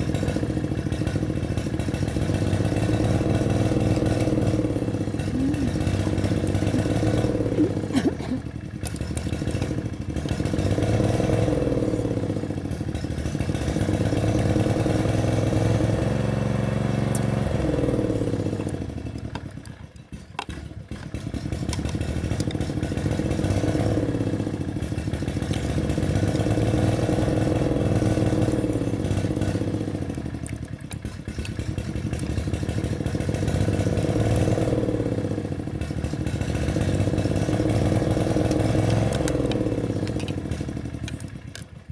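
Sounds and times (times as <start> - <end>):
lawn mower engine surging: 0.0 - 41.9.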